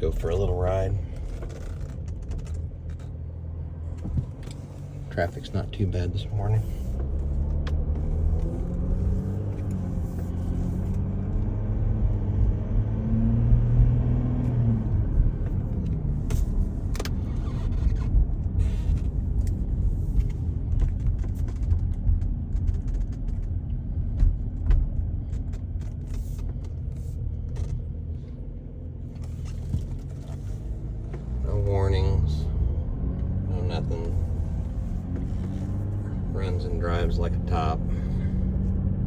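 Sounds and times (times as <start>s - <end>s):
car engine accelerating: 0.0s - 39.0s
tyre and road rumble: 0.0s - 39.0s.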